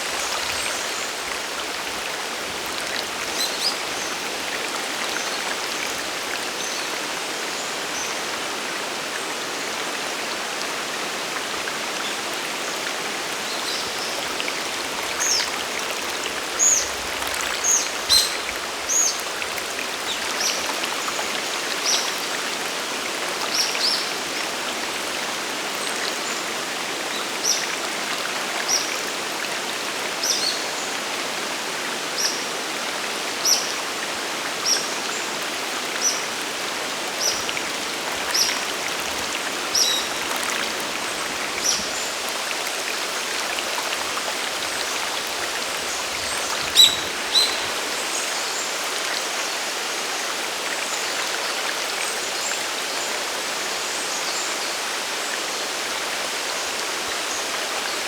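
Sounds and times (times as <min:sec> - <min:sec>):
waterfall and stream rushing: 0:00.0 - 0:58.0.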